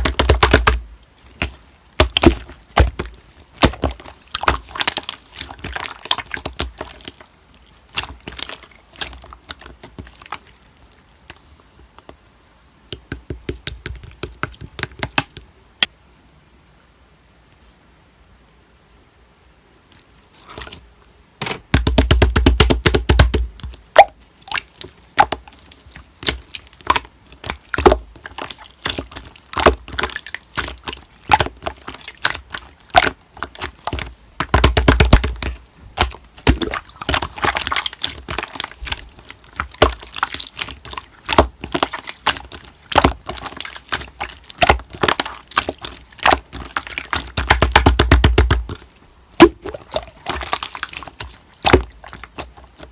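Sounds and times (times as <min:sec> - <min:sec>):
slime squishing: 0:00.0 - 0:11.6, 0:12.9 - 0:15.5, 0:19.9 - 0:20.8, 0:21.7 - 0:52.9.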